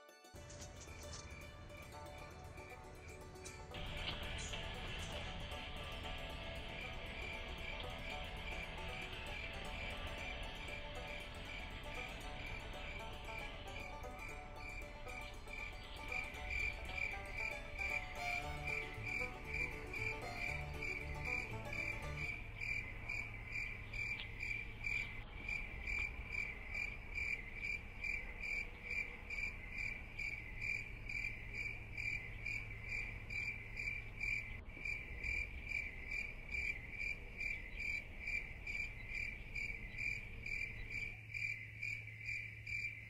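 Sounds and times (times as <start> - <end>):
crickets chirping: 0.4 - 43.0
faint low hum: 0.4 - 43.0.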